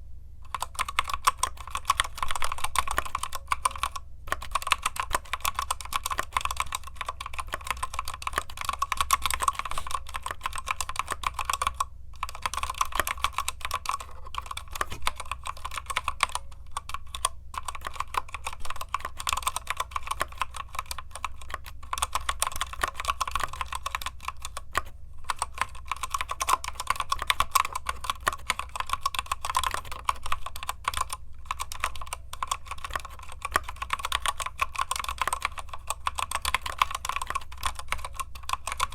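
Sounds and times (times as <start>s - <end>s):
mechanical keyboard typing: 0.5s - 38.9s.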